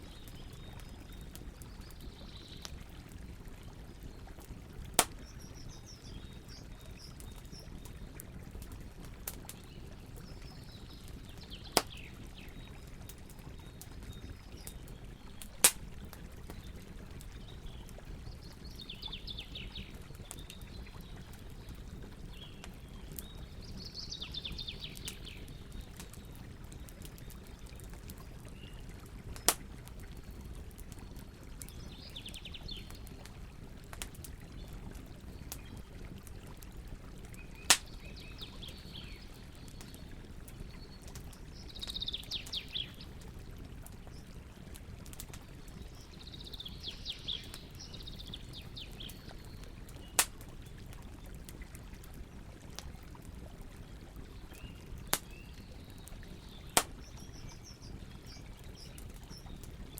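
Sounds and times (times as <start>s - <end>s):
campfire burning: 0.0s - 59.9s.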